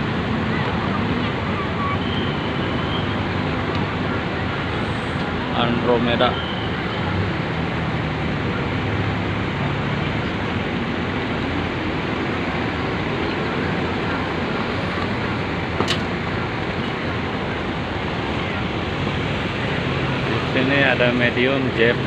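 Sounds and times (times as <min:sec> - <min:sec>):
bus engine running: 0:00.0 - 0:22.0
traffic: 0:00.0 - 0:22.0.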